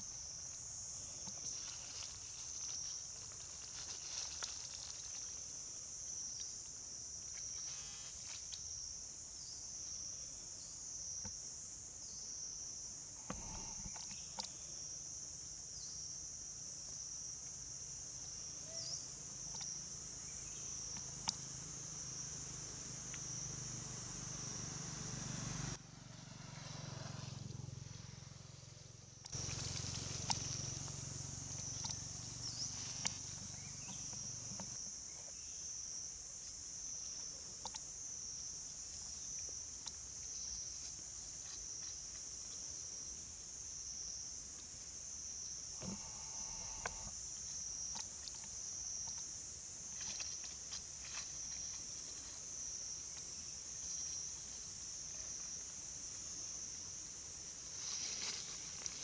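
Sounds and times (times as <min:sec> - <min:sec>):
insects chorus: 0:00.0 - 0:59.0.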